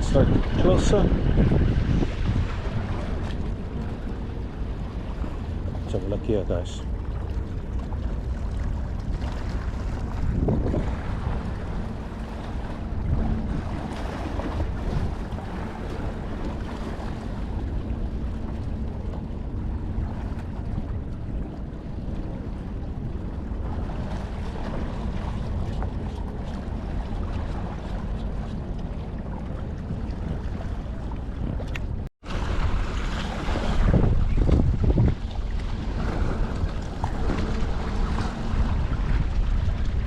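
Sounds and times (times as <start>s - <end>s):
harbour water washing: 0.0s - 40.0s
wind buffeting microphone: 0.0s - 40.0s.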